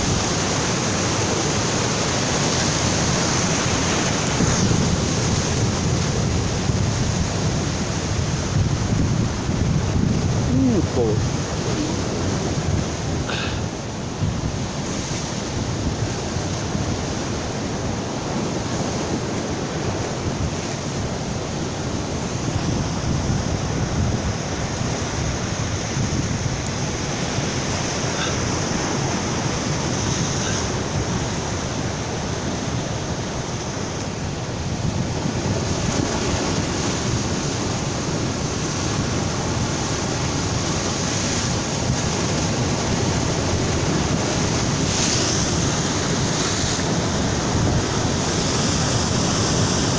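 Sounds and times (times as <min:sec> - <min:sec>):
ocean surf breaking: 0:00.0 - 0:49.9
wind on microphone: 0:00.0 - 0:49.9.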